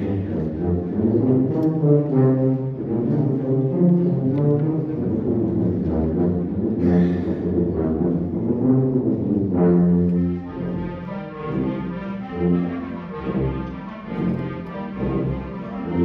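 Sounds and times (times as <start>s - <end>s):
brass sustained chords: 0.0s - 16.0s.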